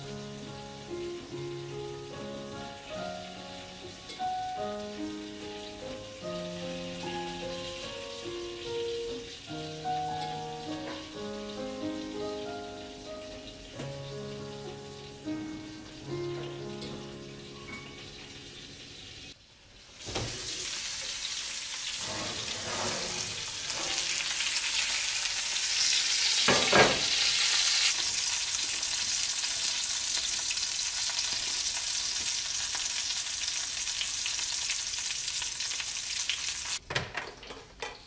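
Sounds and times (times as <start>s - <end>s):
fat sizzling in skillet: 0.0s - 36.8s.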